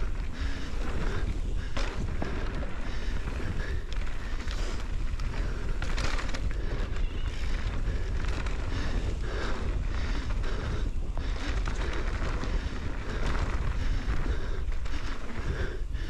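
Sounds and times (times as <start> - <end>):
tyres rolling over dirt and stones: 0.0 - 15.3
wind rumble on microphone: 0.0 - 16.0.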